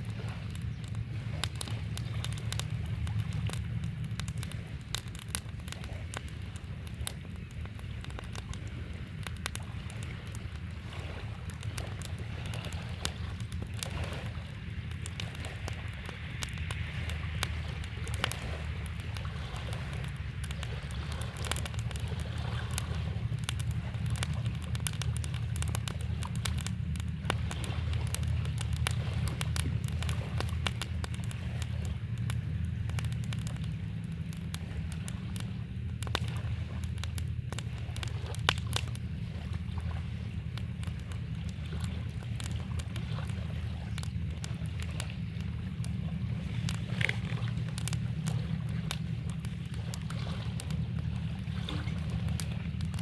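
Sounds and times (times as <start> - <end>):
campfire crackling and popping: 0.0 - 53.0
river water flowing: 0.0 - 53.0.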